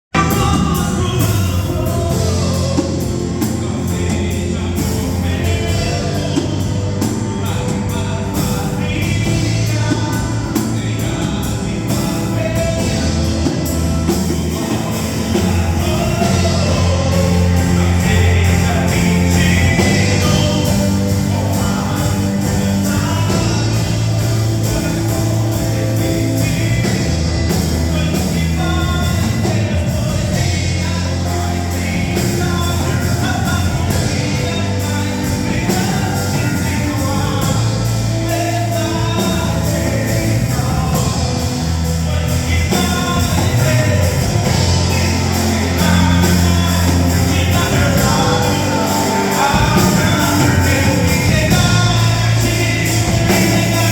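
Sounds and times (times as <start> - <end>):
worship song with band: 0.1 - 53.9.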